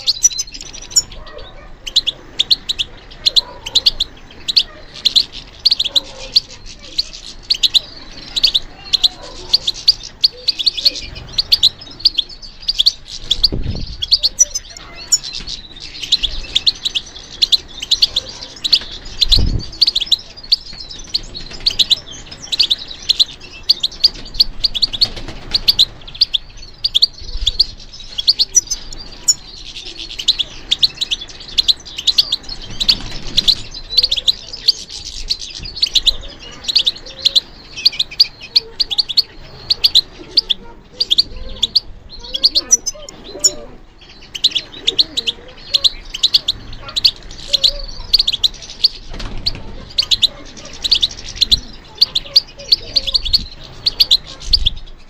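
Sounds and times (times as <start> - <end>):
goldfinch twittering song: 0.0 - 55.0.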